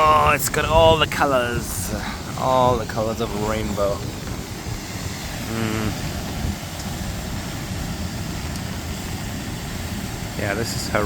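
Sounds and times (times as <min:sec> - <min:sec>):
heavy rain: 0:00.0 - 0:11.0
waterfall roar: 0:00.0 - 0:11.0
wind buffeting microphone: 0:00.0 - 0:11.0.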